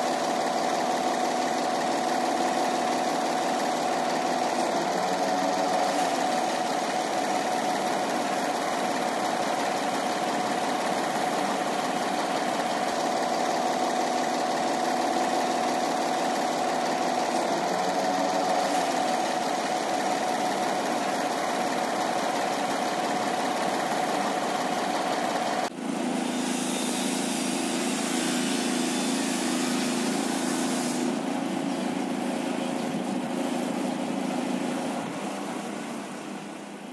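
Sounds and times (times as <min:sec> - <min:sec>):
crane engine running: 0:00.0 - 0:36.9
hoist whine: 0:00.0 - 0:36.9.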